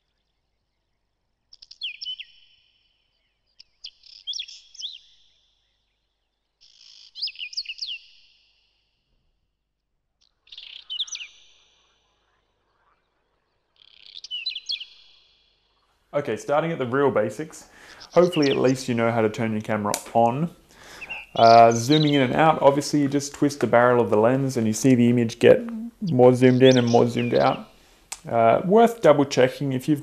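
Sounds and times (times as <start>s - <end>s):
bird chirping: 0.0s - 8.9s, 10.2s - 30.0s.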